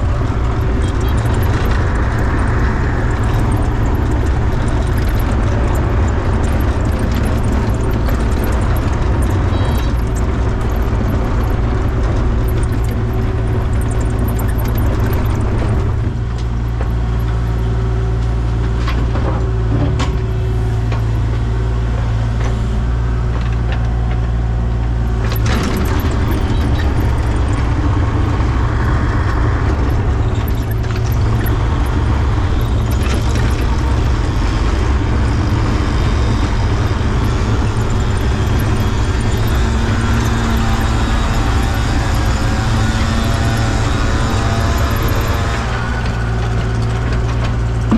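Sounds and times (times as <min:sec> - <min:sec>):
diesel engine rumbling: 0:00.0 - 0:47.9.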